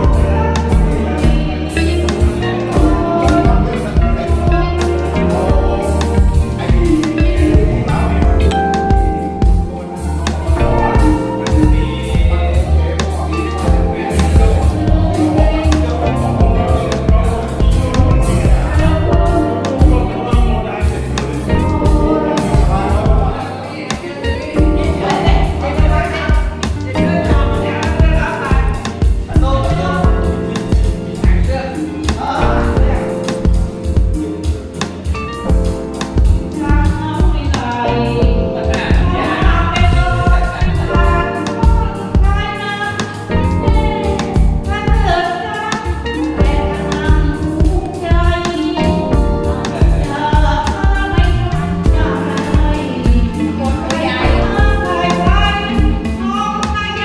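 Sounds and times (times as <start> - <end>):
person singing: 0.0 - 57.0
steady drum beat: 0.0 - 57.0.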